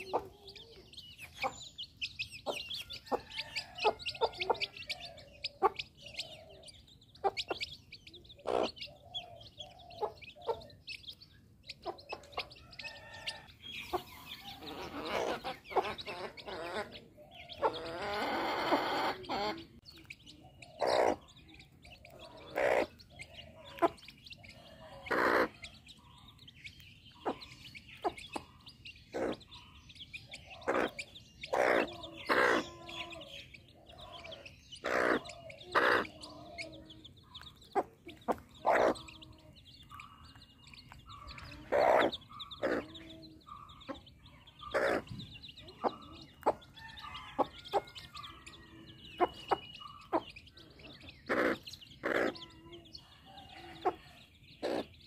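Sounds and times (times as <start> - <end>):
chicks peeping: 0.0 - 55.0
hen clucking: 0.0 - 55.0.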